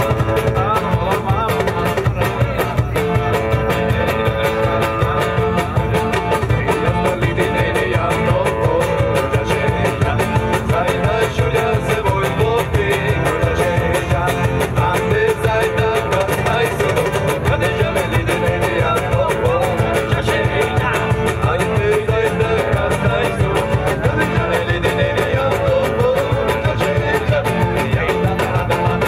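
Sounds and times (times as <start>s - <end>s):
acoustic guitars strummed: 0.0s - 29.0s
cajon beat: 0.0s - 29.0s.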